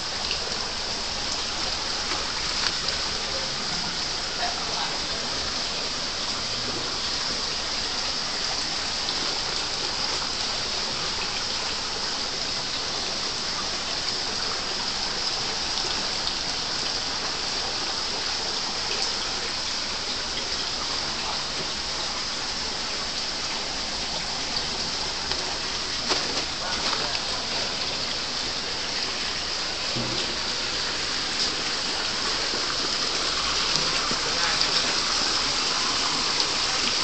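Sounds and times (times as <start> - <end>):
waterfall splashing into pond: 0.0 - 37.0.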